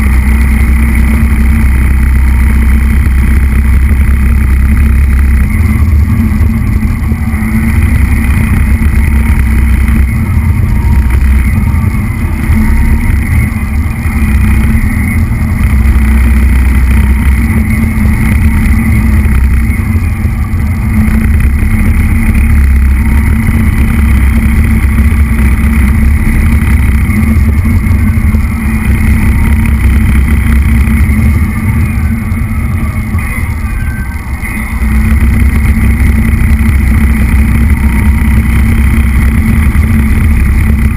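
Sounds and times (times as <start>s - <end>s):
high motor whine: 0.0s - 40.9s
toy truck motor and wheels rumbling: 0.0s - 40.9s.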